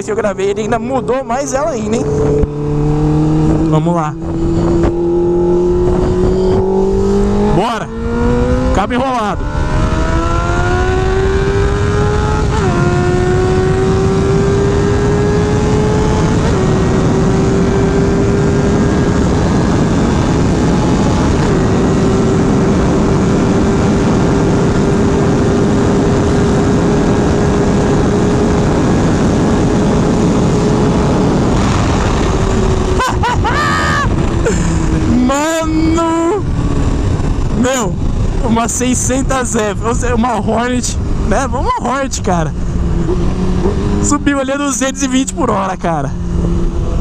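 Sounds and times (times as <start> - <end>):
motorcycle engine revving: 0.0 - 47.0
wind noise: 0.0 - 47.0.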